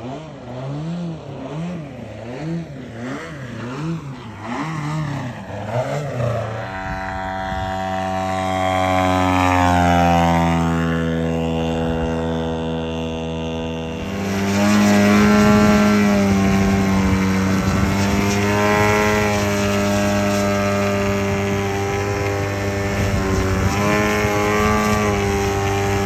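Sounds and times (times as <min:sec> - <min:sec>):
model airplane engine: 0:00.0 - 0:26.0
plane passing drone: 0:00.0 - 0:26.0.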